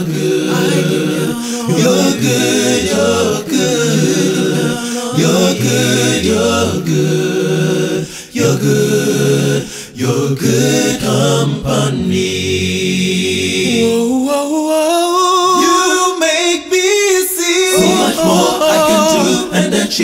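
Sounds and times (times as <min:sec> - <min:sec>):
boys singing in harmony: 0:00.0 - 0:20.0.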